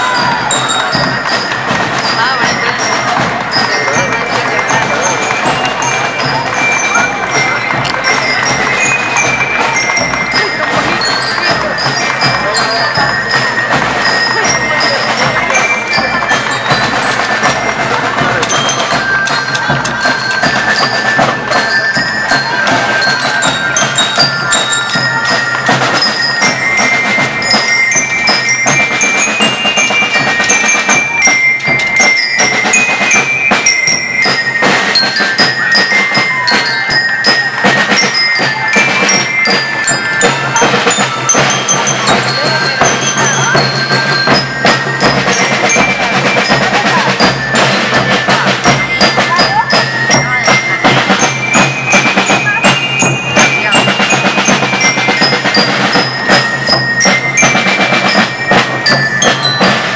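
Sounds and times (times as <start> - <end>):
glockenspiel melody: 0.0 - 59.9
snare and bass drums beating: 0.0 - 59.9.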